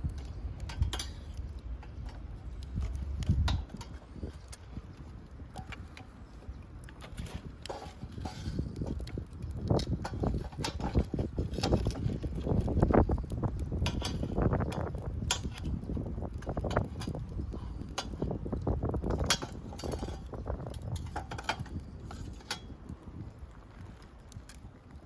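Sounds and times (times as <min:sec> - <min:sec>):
low handling rumble: 0:00.0 - 0:21.1.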